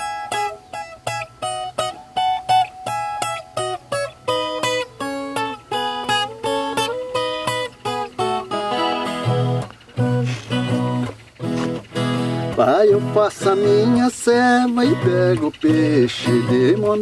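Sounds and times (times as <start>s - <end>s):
plucked guitar chords: 0.0s - 17.0s.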